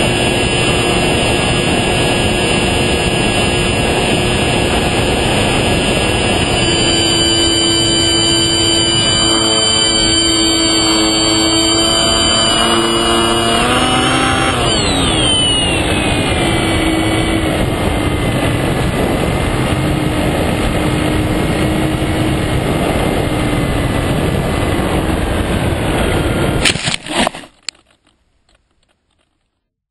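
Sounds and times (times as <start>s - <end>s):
electric motor whining: 0.0s - 26.6s
wind rushing over camera: 0.0s - 29.2s.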